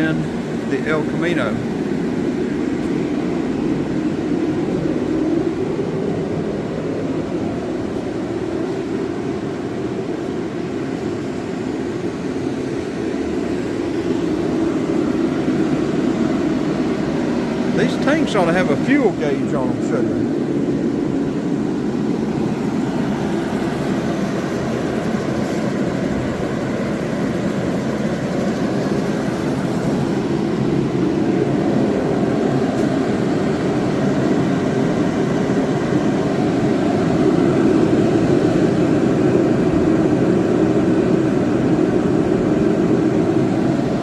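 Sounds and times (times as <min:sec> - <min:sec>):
forced-air heater roaring: 0:00.0 - 0:44.0.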